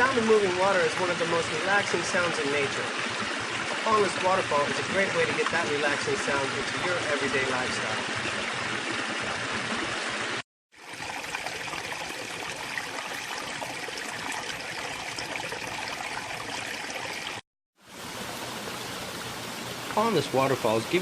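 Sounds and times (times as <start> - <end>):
water splashing over rocks: 0.0 - 17.4.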